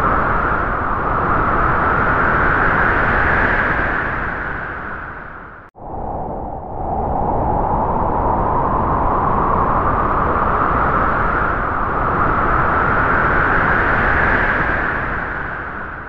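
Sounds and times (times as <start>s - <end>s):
howling wind gust: 0.0s - 16.0s.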